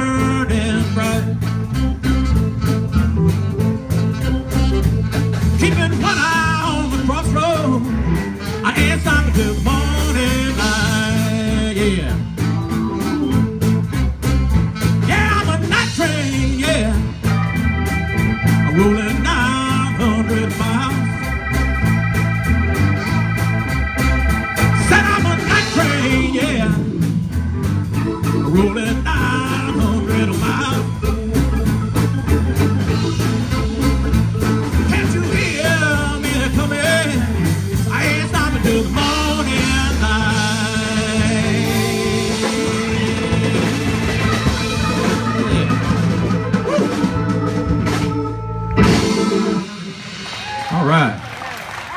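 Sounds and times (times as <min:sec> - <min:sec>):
lead guitar bending: 0:00.0 - 0:50.4
blues-rock band playing: 0:00.0 - 0:51.9.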